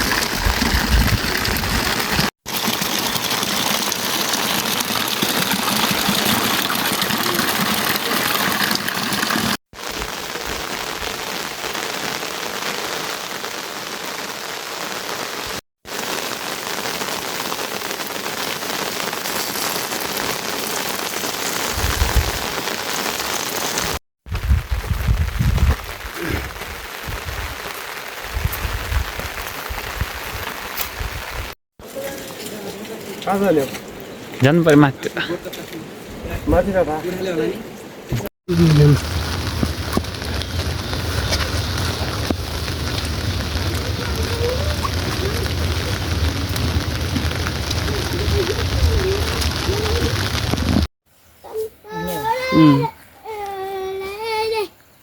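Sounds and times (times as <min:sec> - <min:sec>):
rain hissing on surfaces: 0:00.0 - 0:54.7.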